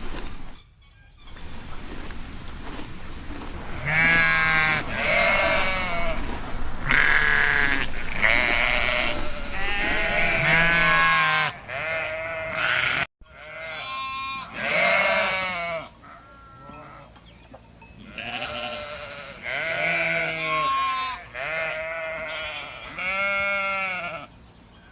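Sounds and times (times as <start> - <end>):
farm animals bleating: 3.8 - 24.4.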